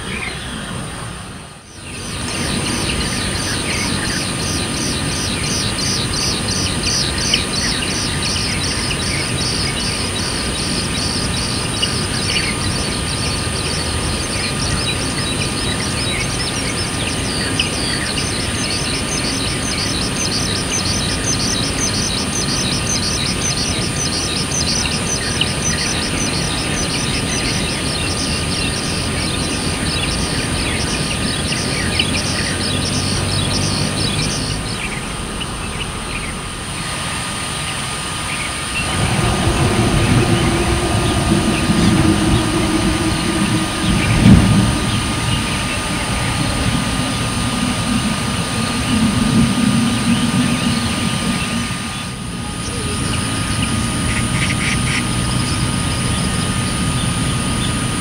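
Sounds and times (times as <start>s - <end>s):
steady high hiss: 0.0s - 56.8s
low background rumble: 0.0s - 58.0s
bird chirping: 1.7s - 56.4s.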